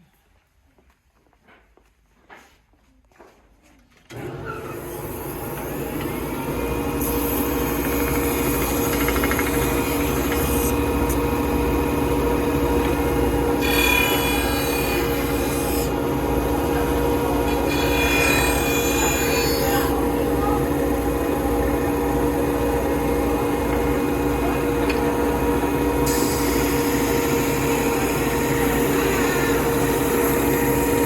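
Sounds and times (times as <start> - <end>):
belt sander motor hum: 4.1 - 31.0.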